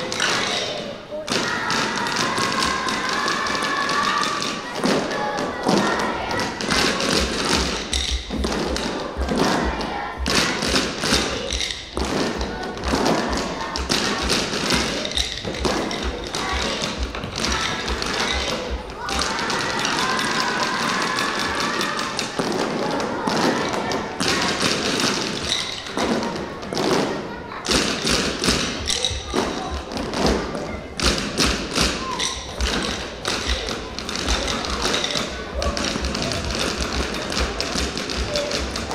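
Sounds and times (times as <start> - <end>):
children drumming with sticks: 0.0 - 38.9
sharp percussion taps: 0.0 - 38.9.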